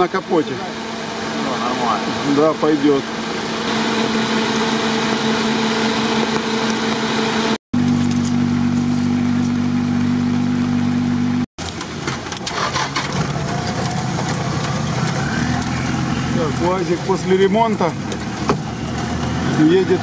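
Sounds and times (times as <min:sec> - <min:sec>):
engine running with rattles: 0:00.0 - 0:20.0
engines idling: 0:00.0 - 0:20.0.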